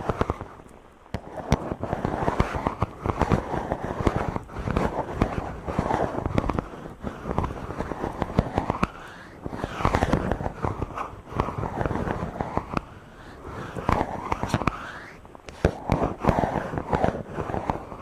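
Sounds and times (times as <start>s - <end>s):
fingers rubbing on microphone: 0.0s - 18.0s.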